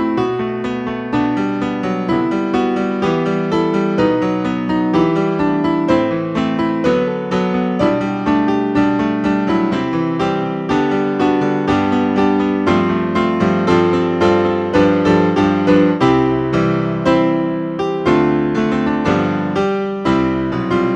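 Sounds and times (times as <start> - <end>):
solo piano flowing piece: 0.0 - 20.9.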